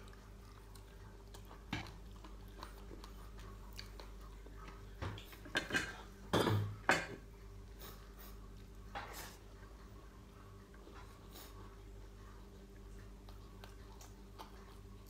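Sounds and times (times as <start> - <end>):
chewing and lip-smacking: 0.0 - 6.1, 7.6 - 15.0.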